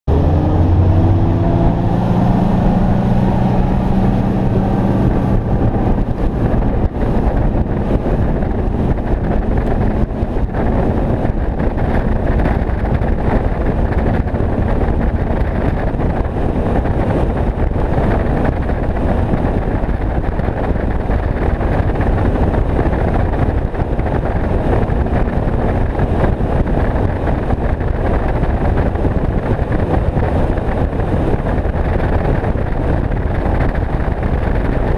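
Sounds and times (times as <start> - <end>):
outboard motor running: 0.1 - 34.9
wind buffeting microphone: 0.1 - 34.9.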